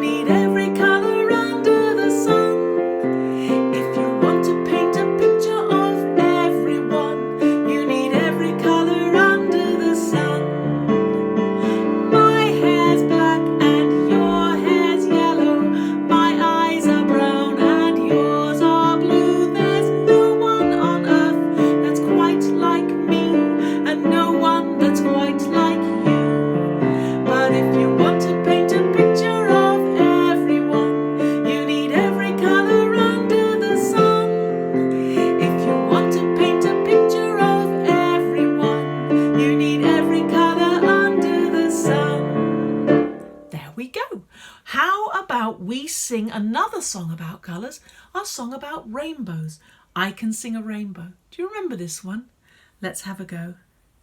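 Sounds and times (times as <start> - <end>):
electric keyboard melody: 0.0 - 43.5
piano accompaniment: 0.0 - 43.6.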